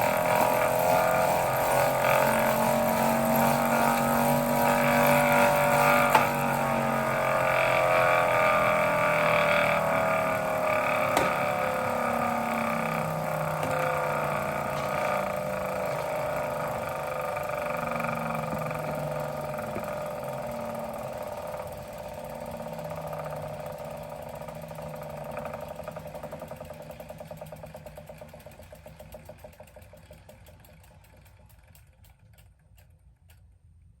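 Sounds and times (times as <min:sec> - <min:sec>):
bike trainer whine: 0:00.0 - 0:33.4
flywheel ticking: 0:00.0 - 0:33.4.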